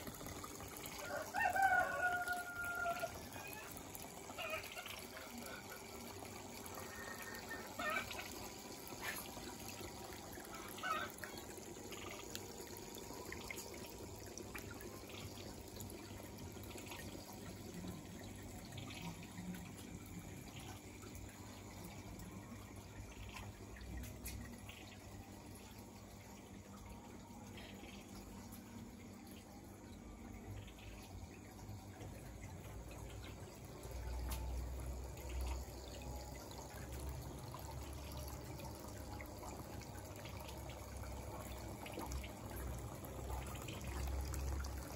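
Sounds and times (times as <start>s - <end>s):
water trickling: 0.0s - 44.9s.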